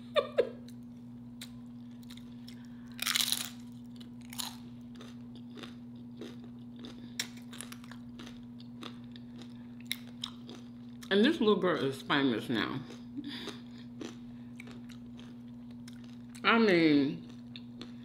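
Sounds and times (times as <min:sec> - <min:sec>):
steady low hum: 0:00.0 - 0:18.0
crunching and chewing chips: 0:00.7 - 0:11.2, 0:12.4 - 0:18.0.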